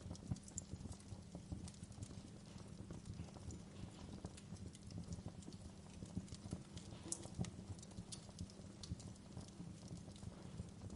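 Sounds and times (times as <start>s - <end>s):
fire popping and snapping: 0.0s - 10.9s
low fire rumble: 0.0s - 10.9s.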